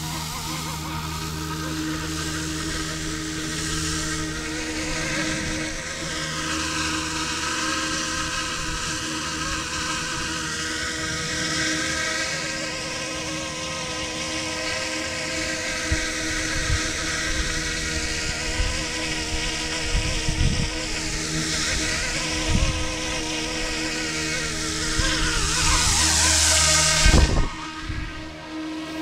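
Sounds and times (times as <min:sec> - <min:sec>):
model helicopter rotor whine: 0:00.0 - 0:29.0.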